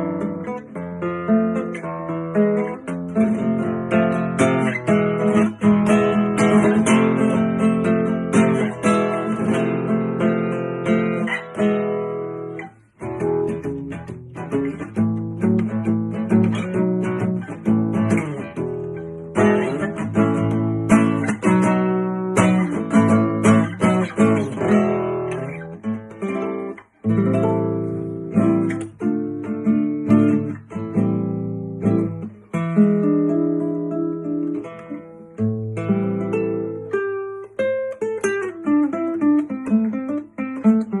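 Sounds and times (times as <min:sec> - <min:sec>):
classical guitar playing: 0:00.0 - 0:41.0.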